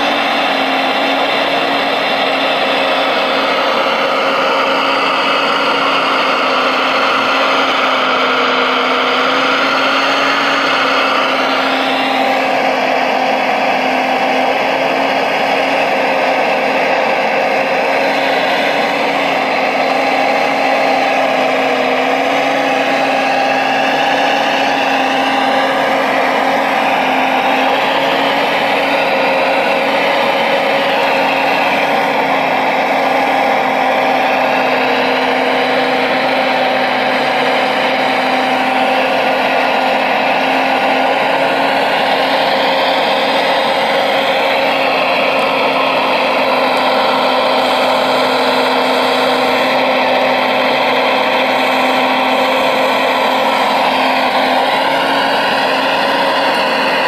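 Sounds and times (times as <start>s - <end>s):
hydraulic pump whining: 0.0s - 57.0s.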